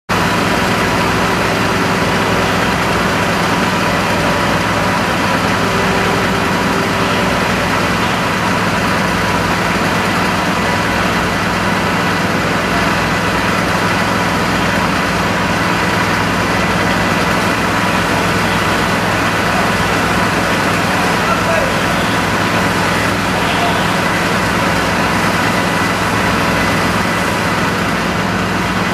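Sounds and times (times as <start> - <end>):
heavy truck engines running: 0.1 - 28.9.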